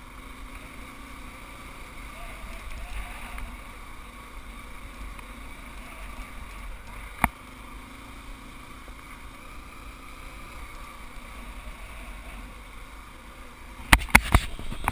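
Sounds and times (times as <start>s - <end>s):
off-road motorcycle engine: 0.0s - 14.9s.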